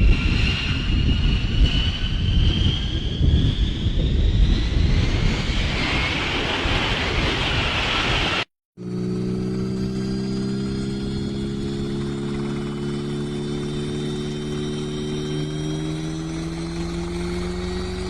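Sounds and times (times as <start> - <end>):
jet engine roar with whine: 0.0 - 18.0.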